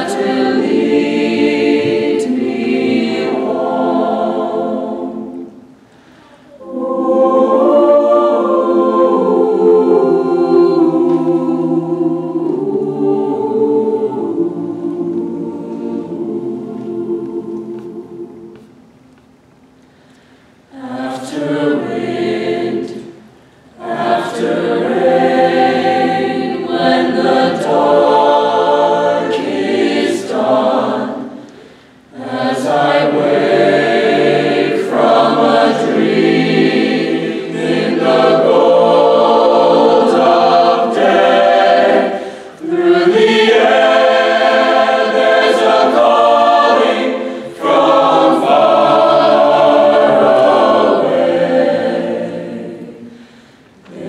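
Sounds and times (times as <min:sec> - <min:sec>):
mixed-voice choir singing: 0:00.0 - 0:19.0, 0:19.8 - 0:54.0.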